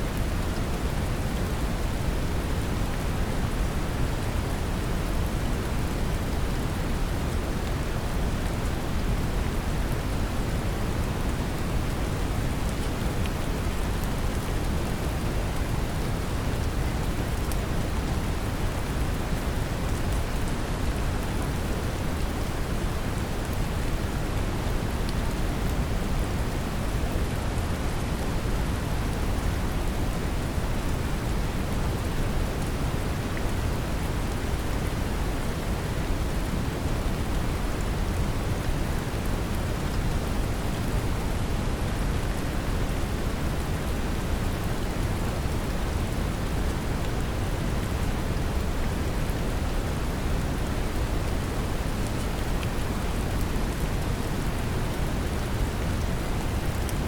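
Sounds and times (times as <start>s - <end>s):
brown noise rumbling hiss: 0.0s - 57.0s.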